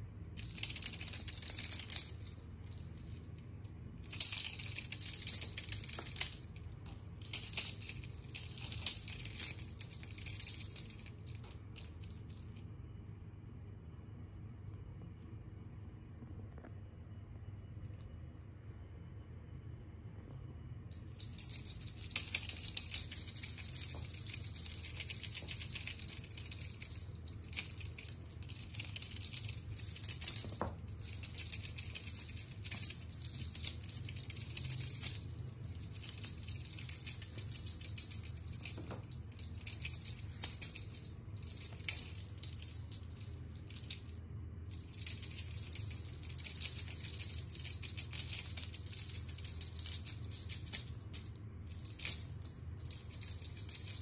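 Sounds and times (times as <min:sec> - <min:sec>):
toy rattling jingle: 0:00.2 - 0:12.6, 0:20.9 - 0:54.0.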